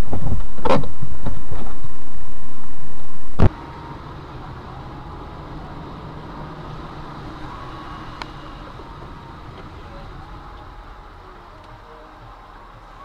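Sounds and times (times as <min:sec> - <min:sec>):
loud rushing noise: 0:00.0 - 0:11.4
car driving rumble: 0:00.0 - 0:13.0.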